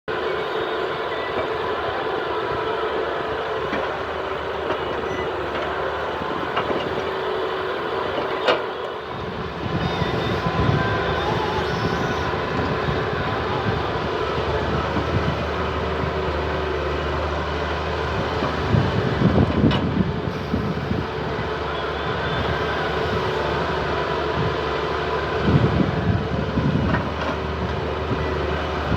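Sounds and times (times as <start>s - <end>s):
diesel engines running: 0.1s - 28.9s
engine whine: 0.1s - 28.9s.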